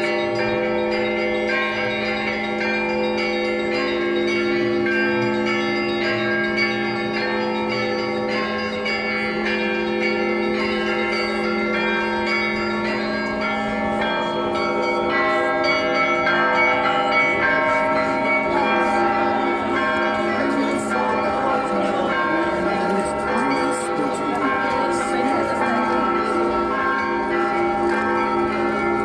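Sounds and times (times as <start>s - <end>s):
church bells pealing: 0.0s - 29.0s.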